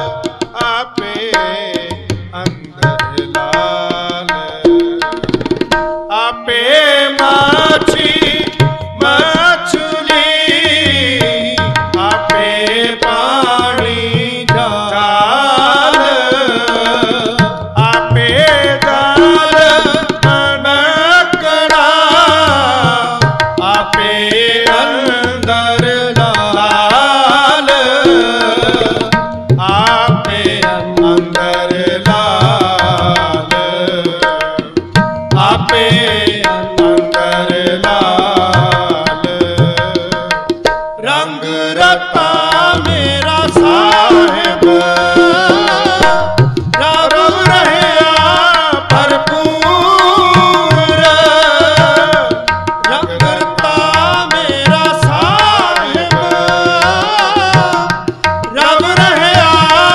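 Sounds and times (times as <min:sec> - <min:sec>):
man singing: 0:00.0 - 0:05.3, 0:06.1 - 0:59.9
harmonium: 0:00.0 - 0:59.9
tabla rhythm: 0:00.0 - 0:59.9.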